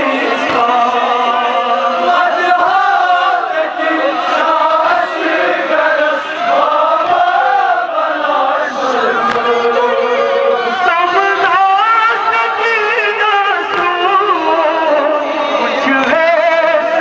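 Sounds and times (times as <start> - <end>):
crowd of men chanting: 0.0 - 17.0
person singing into microphone: 0.0 - 17.0.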